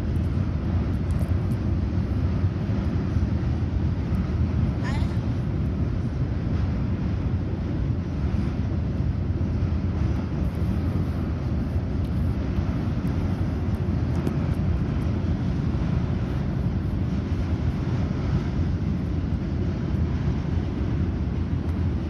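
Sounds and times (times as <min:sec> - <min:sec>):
freight train rumbling over bridge: 0:00.0 - 0:22.0
wind buffeting microphone: 0:00.0 - 0:22.0.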